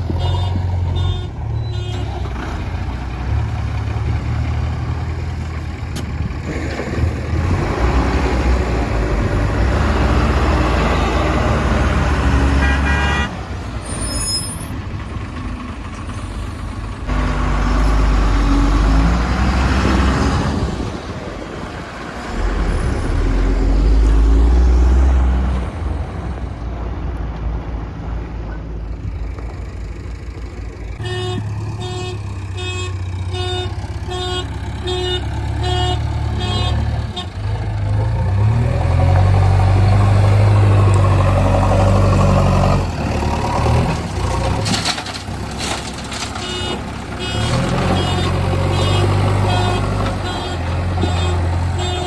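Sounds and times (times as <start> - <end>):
diesel engine working under load: 0.0 - 52.0.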